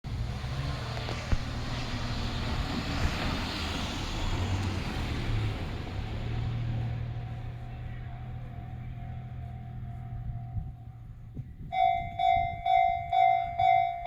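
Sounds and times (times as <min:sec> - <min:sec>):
vehicle passing by: 0:00.1 - 0:11.4.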